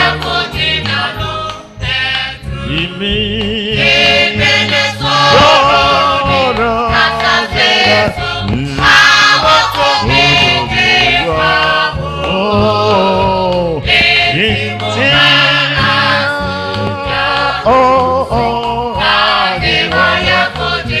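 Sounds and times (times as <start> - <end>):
gospel choir singing: 0.0 - 21.0
instrumental backing with bass: 0.0 - 21.0.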